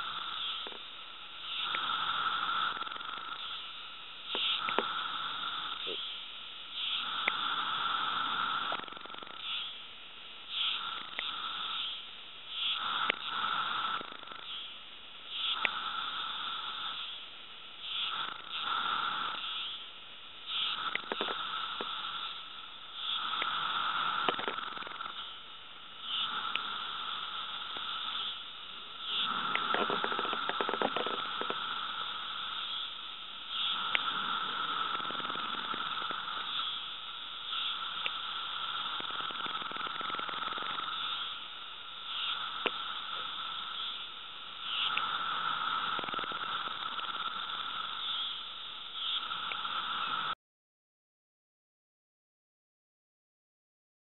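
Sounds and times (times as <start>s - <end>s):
cicada buzzing loudly: 0.0s - 0.8s, 1.4s - 6.2s, 6.8s - 9.8s, 10.5s - 17.2s, 17.8s - 19.9s, 20.5s - 25.4s, 26.0s - 50.4s
chorus of cicadas: 0.0s - 50.4s.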